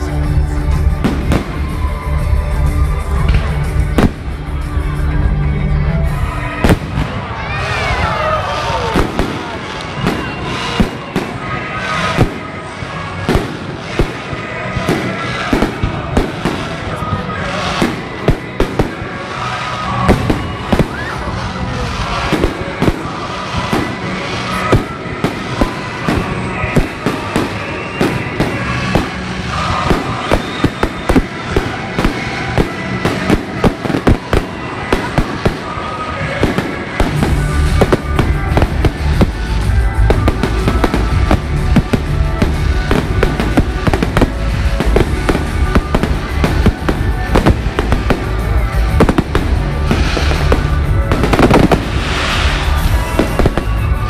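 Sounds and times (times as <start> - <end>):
fireworks bursting and crackling: 0.0 - 54.0
music playing: 0.0 - 54.0.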